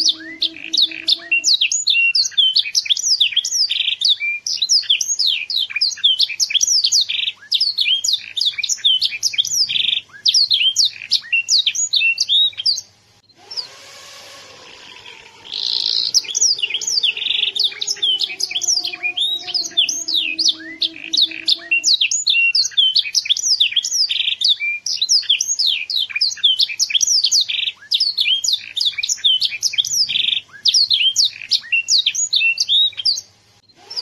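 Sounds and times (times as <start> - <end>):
canary singing: 0.0 - 34.0.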